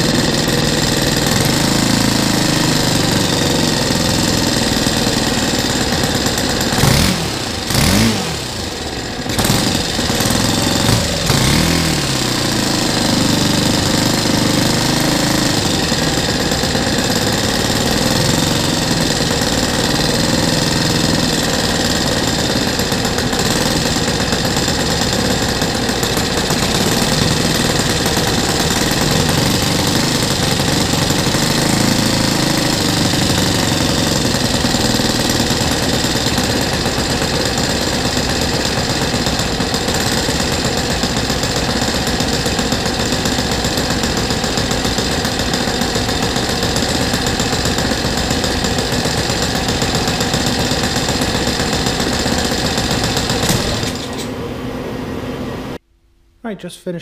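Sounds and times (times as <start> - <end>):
small gasoline engine running: 0.0 - 55.8.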